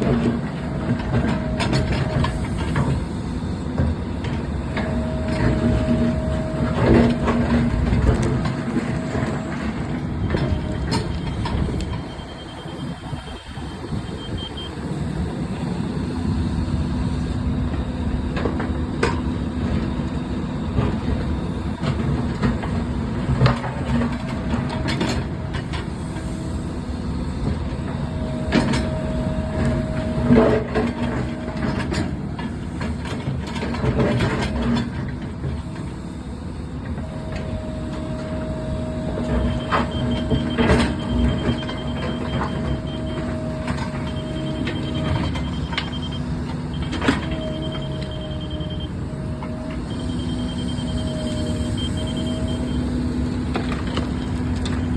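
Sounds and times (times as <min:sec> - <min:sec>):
excavator engine running: 0:00.0 - 0:54.9
machine whine: 0:00.0 - 0:54.9.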